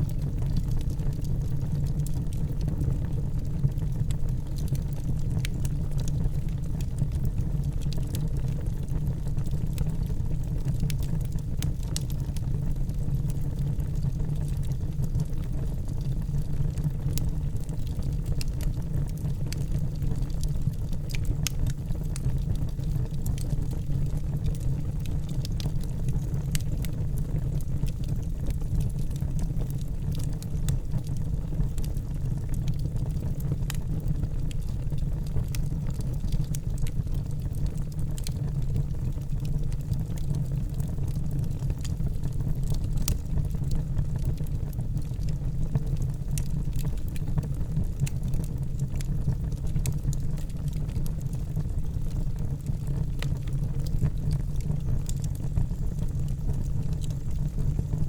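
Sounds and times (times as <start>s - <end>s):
fire crackles and pops: 0.0s - 58.0s
fire flames rumbling: 0.0s - 58.0s.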